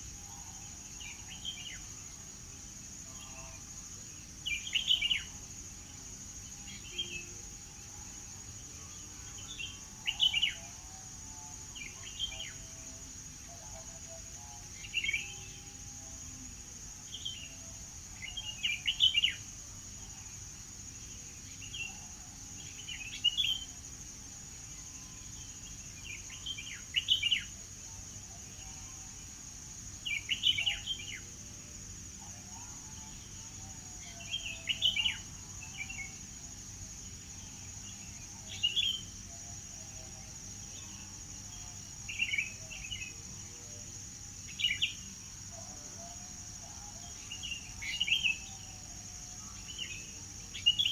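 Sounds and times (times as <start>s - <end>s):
high-pitched background hiss: 0.0s - 50.9s
songbird chirping: 0.0s - 50.9s.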